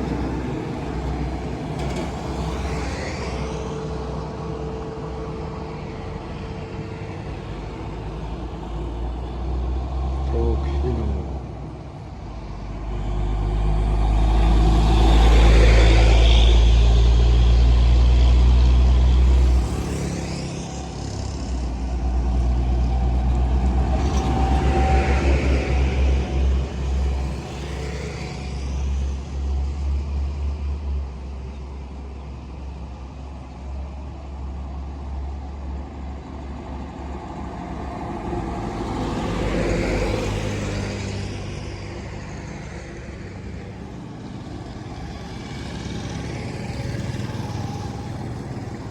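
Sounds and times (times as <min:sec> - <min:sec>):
trucks and buses passing: 0:00.0 - 0:48.9.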